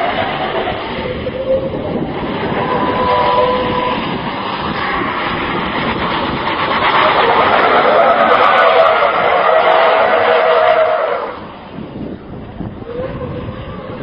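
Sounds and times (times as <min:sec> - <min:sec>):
truck diesel engine running hard: 0:00.0 - 0:14.0
tyres scrubbing on road: 0:00.0 - 0:14.0.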